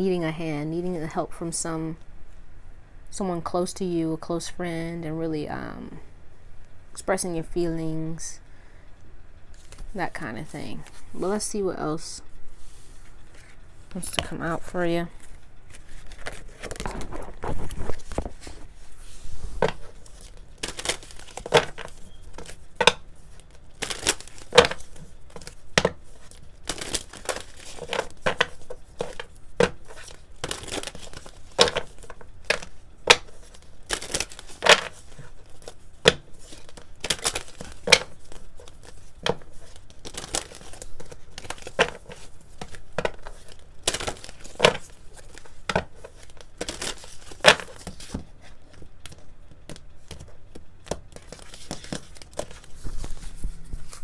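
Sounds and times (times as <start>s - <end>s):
cards being shuffled: 9.5s - 11.4s, 12.6s - 54.0s.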